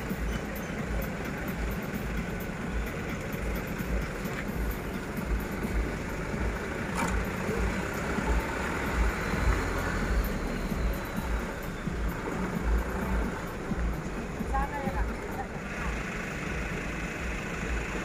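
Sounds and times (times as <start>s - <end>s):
truck engine rolling past: 0.0s - 18.0s.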